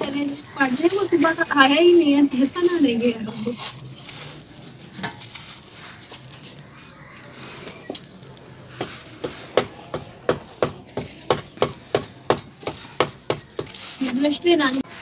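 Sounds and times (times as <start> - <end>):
dry cement mix crumbled by hand: 0.0 - 15.0.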